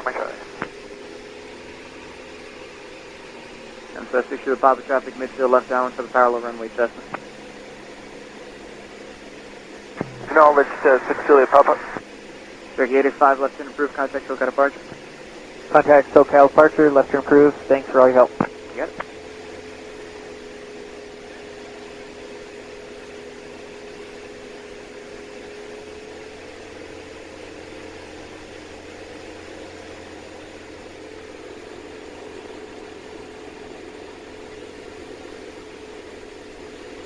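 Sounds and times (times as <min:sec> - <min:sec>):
aircraft engine and propeller droning: 0:00.0 - 0:37.0
steady hum tone: 0:00.0 - 0:37.0.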